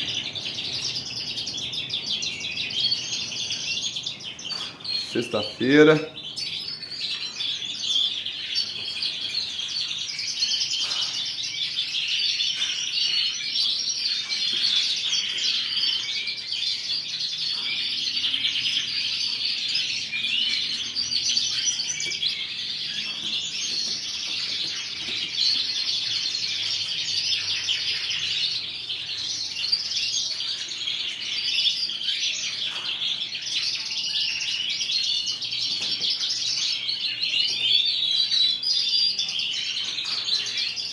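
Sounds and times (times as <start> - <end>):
canaries singing and chirping: 0.0 - 40.9.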